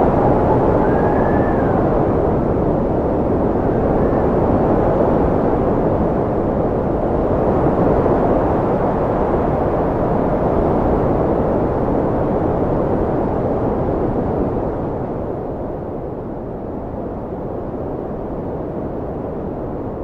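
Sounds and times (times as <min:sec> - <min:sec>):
strong wind rushing: 0:00.0 - 0:20.0.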